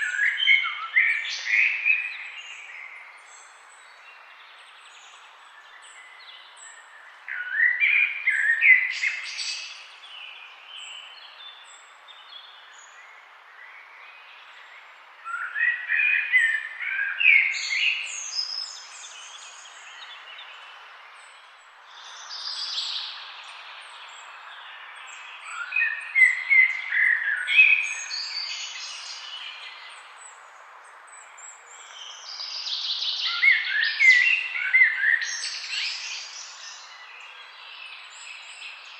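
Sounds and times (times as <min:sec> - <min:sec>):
songbirds singing: 0:00.0 - 0:38.9
steady background hiss: 0:00.0 - 0:38.9.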